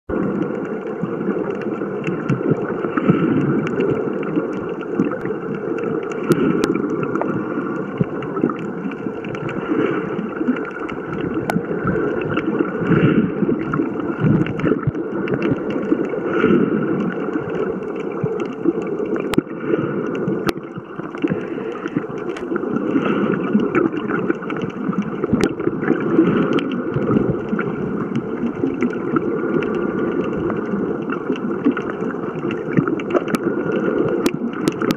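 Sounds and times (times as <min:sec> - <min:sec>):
water rushing and gurgling underwater: 0:00.1 - 0:34.9.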